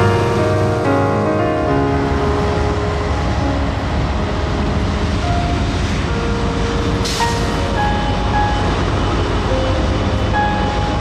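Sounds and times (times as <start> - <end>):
background music with held notes: 0.0 - 11.0
train rumbling past: 0.0 - 11.0.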